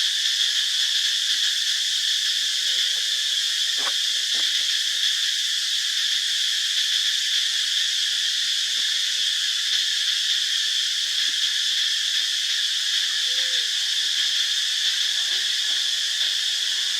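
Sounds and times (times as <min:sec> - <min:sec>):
insect chorus drone: 0:00.0 - 0:16.9.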